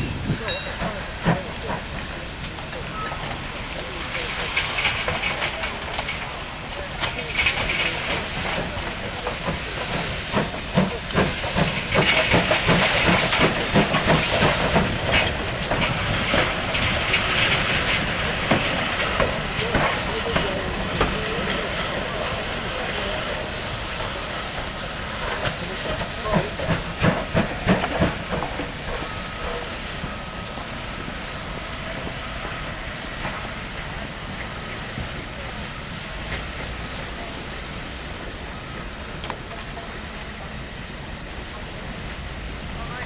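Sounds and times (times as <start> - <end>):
steam hissing: 0.0 - 43.0
steam locomotive exhaust beats: 0.0 - 43.0.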